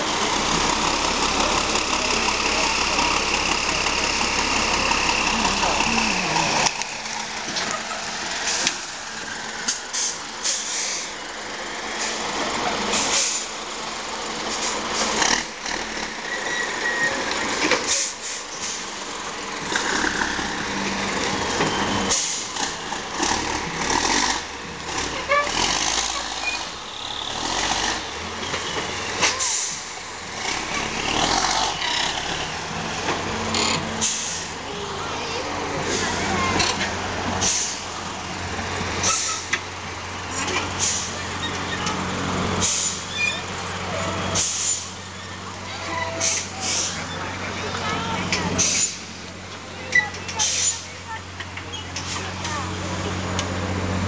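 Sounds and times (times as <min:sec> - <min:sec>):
truck diesel engine under load: 0:00.0 - 0:54.0.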